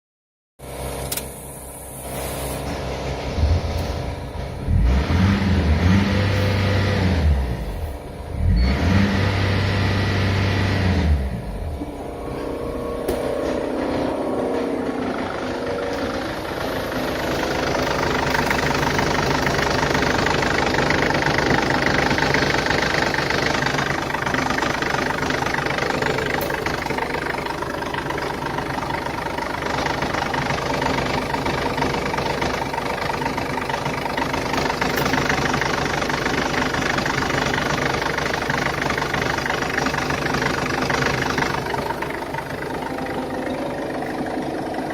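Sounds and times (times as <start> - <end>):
diesel engine running: 0.6 - 44.9.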